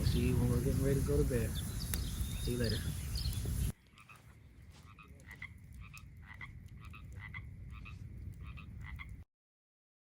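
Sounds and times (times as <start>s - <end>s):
frogs croaking: 0.0s - 9.2s.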